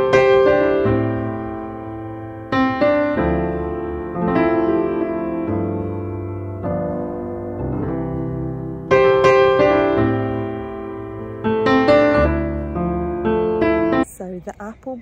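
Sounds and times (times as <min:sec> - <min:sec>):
piano music: 0:00.0 - 0:14.4.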